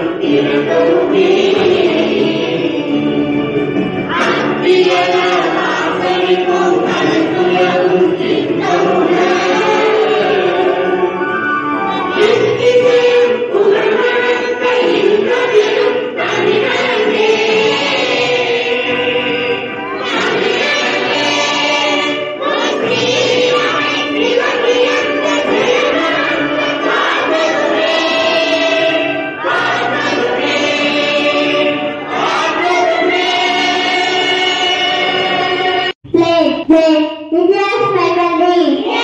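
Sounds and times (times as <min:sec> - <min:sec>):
children singing in unison: 0:00.0 - 0:03.5, 0:04.1 - 0:11.2, 0:11.8 - 0:36.0, 0:38.8 - 0:39.0.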